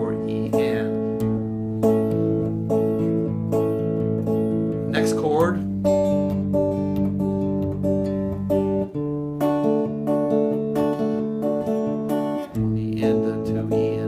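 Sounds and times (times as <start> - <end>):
fingerpicked electric guitar: 0.0 - 14.0.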